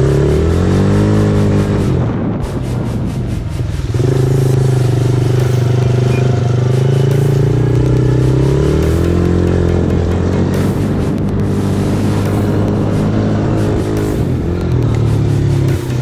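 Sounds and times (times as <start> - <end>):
small off-road engine running: 0.0 - 16.0.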